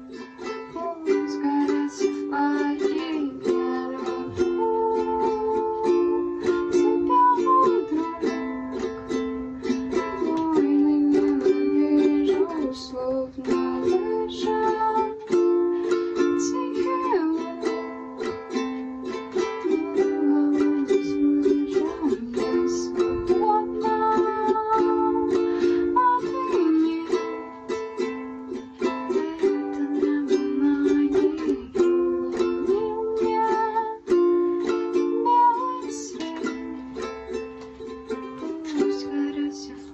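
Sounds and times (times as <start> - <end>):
plucked ukulele melody: 0.0 - 39.9
ukulele strummed chords: 0.0 - 39.9.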